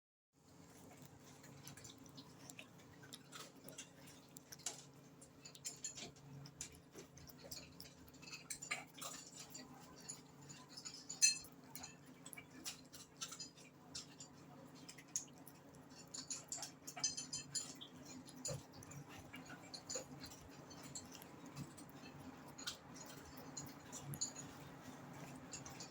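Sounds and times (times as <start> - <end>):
cat chewing wet clicks: 0.5 - 25.9.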